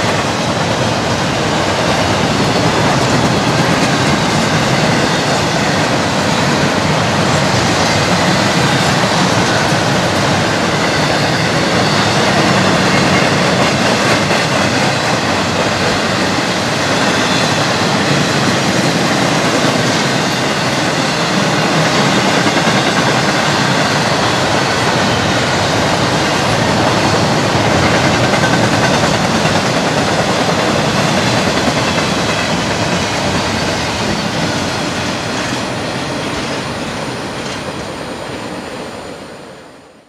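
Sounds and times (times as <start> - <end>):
train wheels rolling on rails: 0.0 - 40.0.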